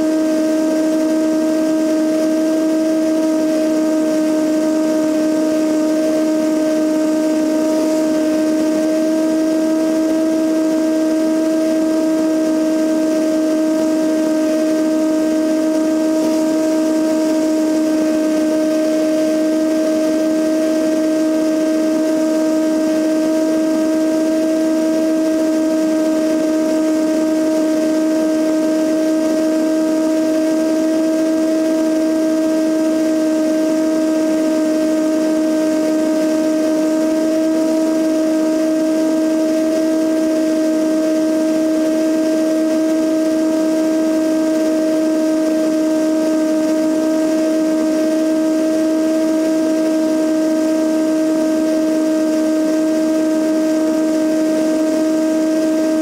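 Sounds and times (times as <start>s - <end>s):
light aircraft engine and propeller drone: 0.0s - 56.0s.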